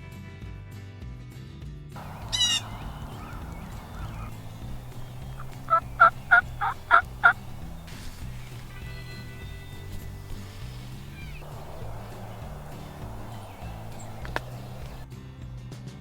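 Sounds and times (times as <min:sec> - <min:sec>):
wild turkey calling: 0:02.0 - 0:15.0.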